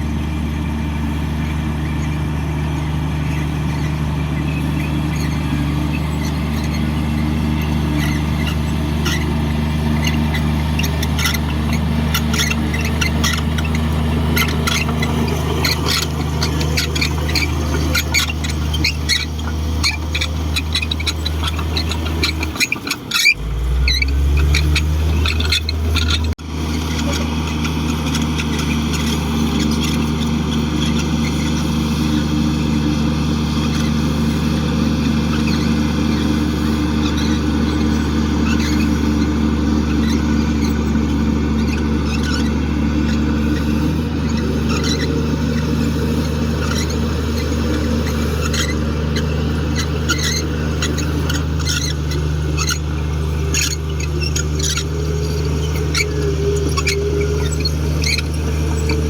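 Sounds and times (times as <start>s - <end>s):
bulldozer diesel engine running: 0.0s - 59.0s
high metallic squeaks: 3.2s - 32.7s, 33.7s - 59.0s.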